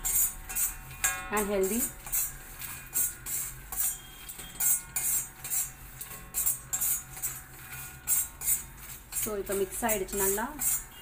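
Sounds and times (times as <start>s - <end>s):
metal spatula scraping pan: 0.0s - 11.0s
seeds rattling in pan: 0.0s - 11.0s.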